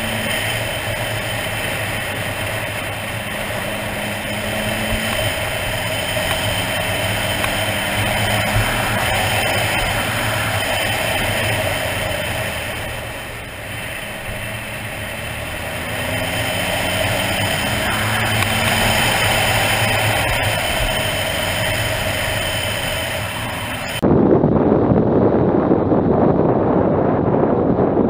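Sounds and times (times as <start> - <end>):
motorcycle engine running: 0.0 - 28.0
wind and road noise: 0.0 - 28.0
wind buffeting microphone: 0.0 - 28.0.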